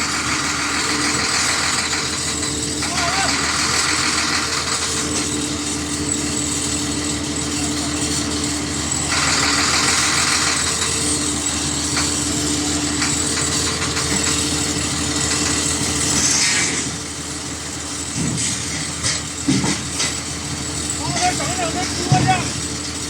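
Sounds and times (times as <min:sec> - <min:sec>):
engine humming with hiss: 0:00.0 - 0:23.0.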